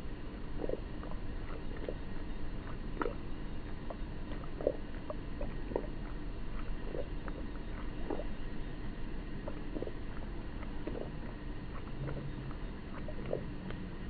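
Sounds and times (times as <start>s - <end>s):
slowed cat lapping milk: 0.0s - 14.0s
steady background noise: 0.0s - 14.0s.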